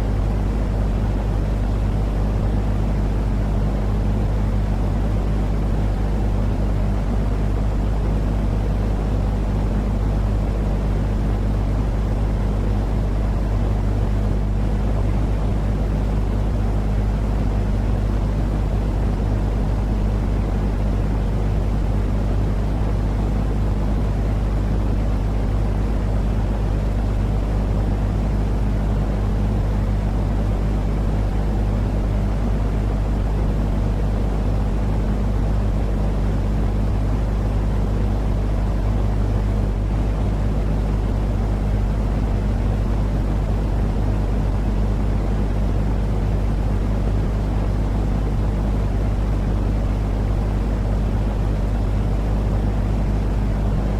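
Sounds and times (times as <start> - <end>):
constant low hum: 0.0 - 53.9.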